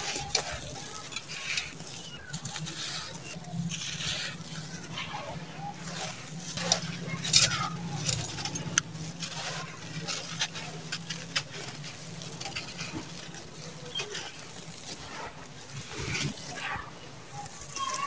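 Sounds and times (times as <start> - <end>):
gritty sand crunching: 0.0 - 18.0.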